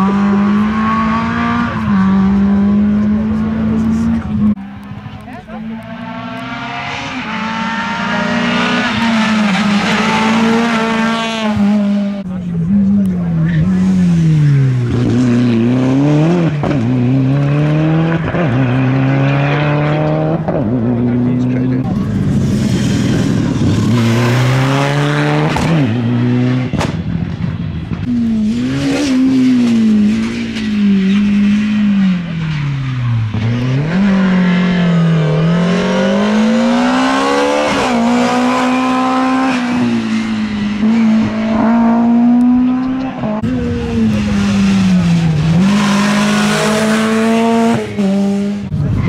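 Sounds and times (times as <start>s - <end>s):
rally car engines revving: 0.0s - 49.0s.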